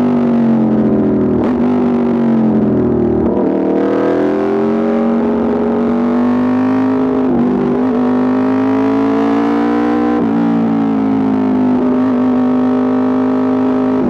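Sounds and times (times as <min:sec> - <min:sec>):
motorcycle engine running hard: 0:00.0 - 0:14.0.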